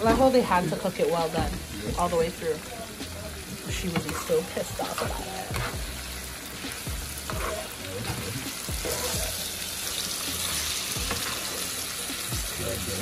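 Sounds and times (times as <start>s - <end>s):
seafood frying in hot oil: 0.0s - 13.0s.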